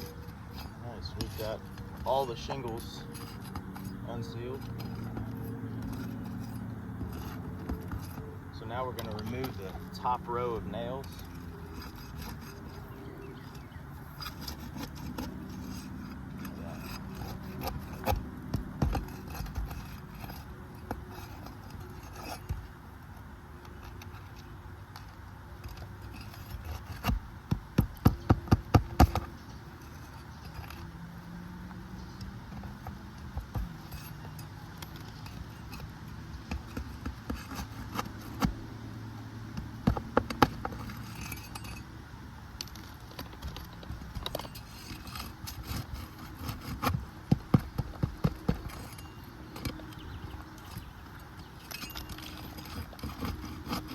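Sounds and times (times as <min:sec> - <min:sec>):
tool scraping shingles: 0:00.0 - 0:53.9.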